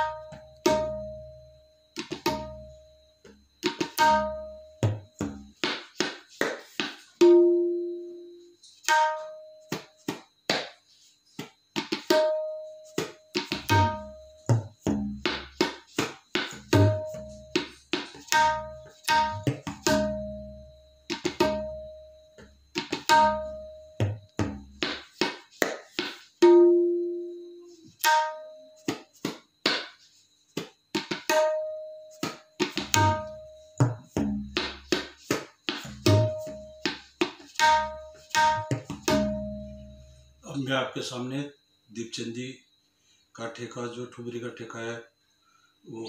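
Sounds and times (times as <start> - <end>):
tabla playing: 0.0 - 10.6, 11.8 - 29.9, 31.0 - 40.0.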